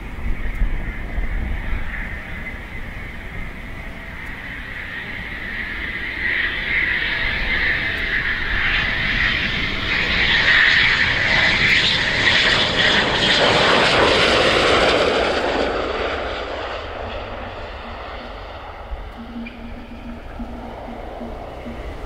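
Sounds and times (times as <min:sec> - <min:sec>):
jet engine roar with high whine: 0:00.0 - 0:22.0.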